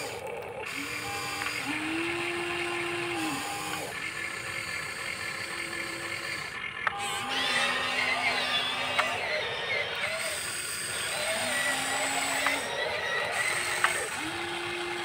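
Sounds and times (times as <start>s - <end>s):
toy electric motor whining: 0.0s - 15.0s.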